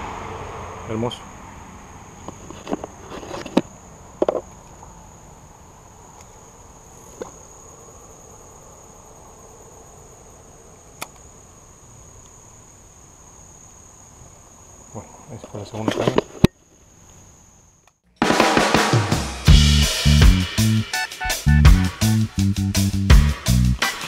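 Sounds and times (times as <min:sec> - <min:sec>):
high-pitched insect chorus: 0:00.0 - 0:18.0, 0:19.6 - 0:24.0.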